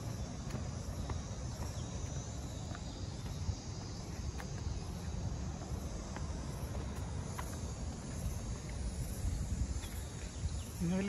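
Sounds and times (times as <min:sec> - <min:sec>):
insects buzzing shrill drone: 0:00.0 - 0:11.0.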